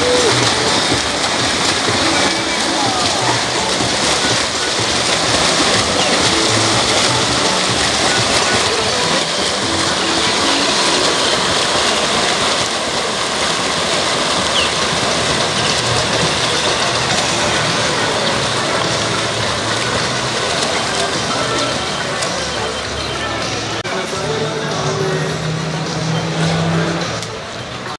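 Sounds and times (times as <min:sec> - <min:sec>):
crowd din: 0:00.0 - 0:27.9
swimmers splashing: 0:00.0 - 0:27.9.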